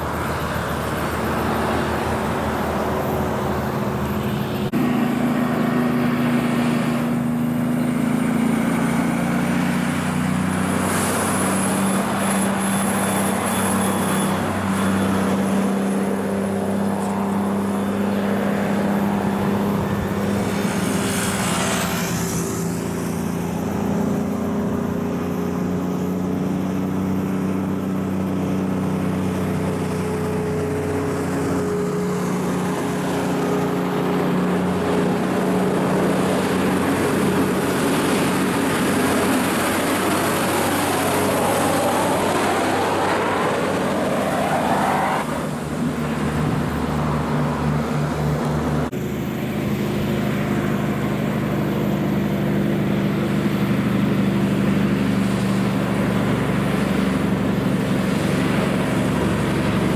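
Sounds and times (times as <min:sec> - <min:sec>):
diesel trucks climbing a grade: 0:00.0 - 0:59.9.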